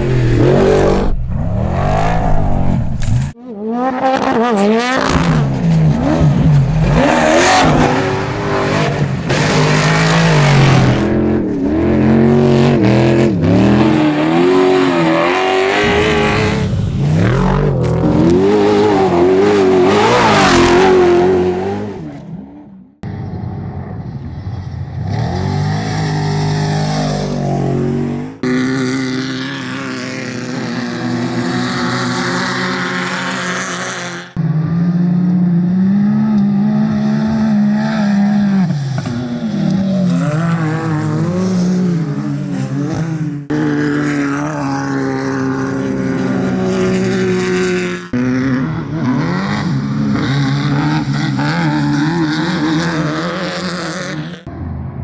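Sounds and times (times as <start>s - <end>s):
race vehicle engines revving: 0.0s - 55.0s.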